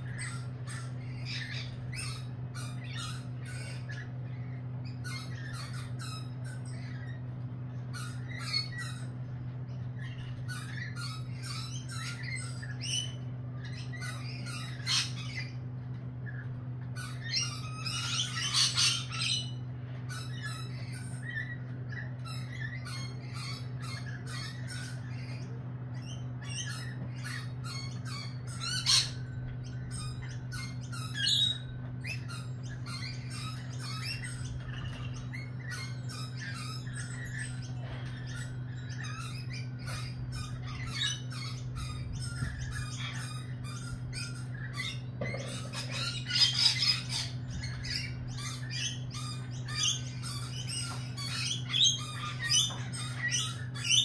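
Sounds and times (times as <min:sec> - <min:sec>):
lorikeets chattering and squawking: 0:00.0 - 0:54.0
low hum: 0:00.0 - 0:54.0.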